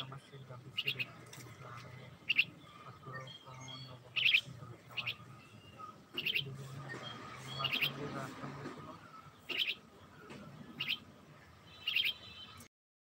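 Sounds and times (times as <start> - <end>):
myna chirping: 0.0 - 12.7.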